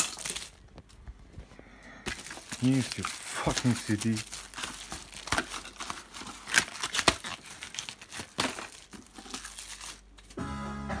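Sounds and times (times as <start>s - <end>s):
plastic packaging crinkling: 0.0s - 1.4s, 2.0s - 10.4s.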